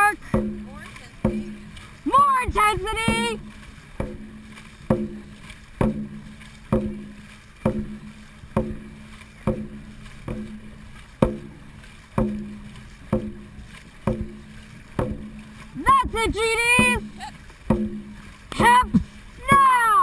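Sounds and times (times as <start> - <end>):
drum beaten steadily: 0.0 - 20.0.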